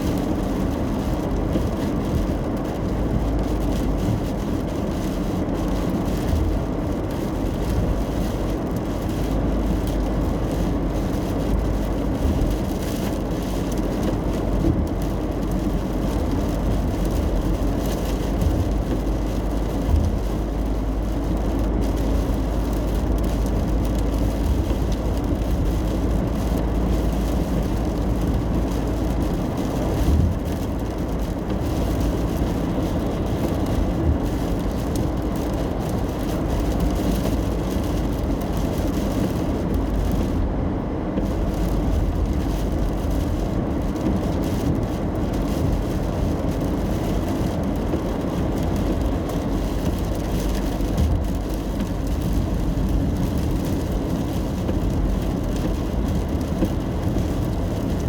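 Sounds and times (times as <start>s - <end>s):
rain hiss: 0.0s - 58.0s
road and tyre rumble: 0.0s - 58.0s.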